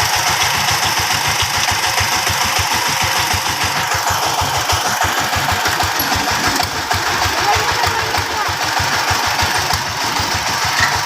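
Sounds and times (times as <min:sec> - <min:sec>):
vehicle engine chugging: 0:00.0 - 0:11.0.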